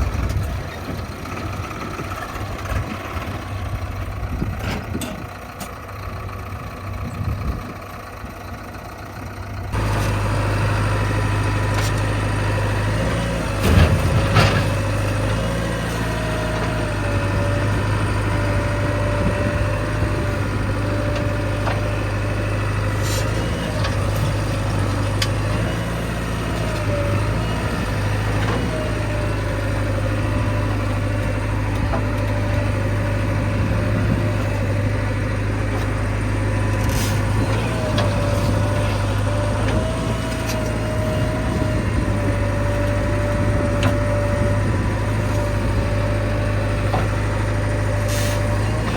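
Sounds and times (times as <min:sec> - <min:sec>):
diesel machinery engine hum: 0:00.0 - 0:48.9.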